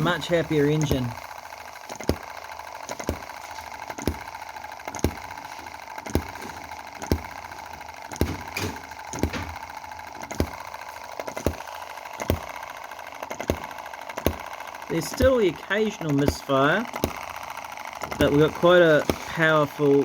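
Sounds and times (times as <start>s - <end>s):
engine firing with sharp bangs: 0.0s - 20.0s
steady mechanical hum: 0.0s - 20.0s.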